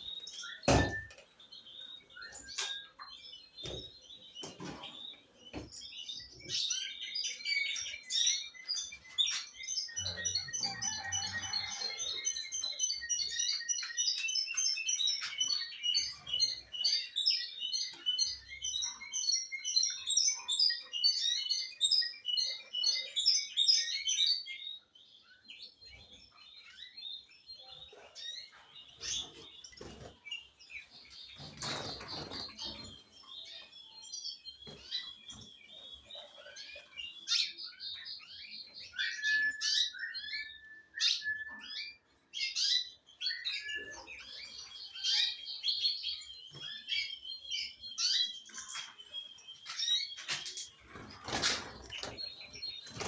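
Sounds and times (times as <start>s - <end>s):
small birds chirping and singing: 0.0s - 53.0s.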